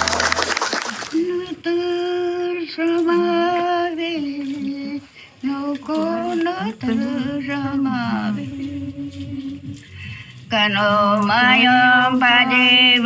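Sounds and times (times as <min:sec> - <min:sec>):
woman singing unaccompanied: 0:01.0 - 0:13.0.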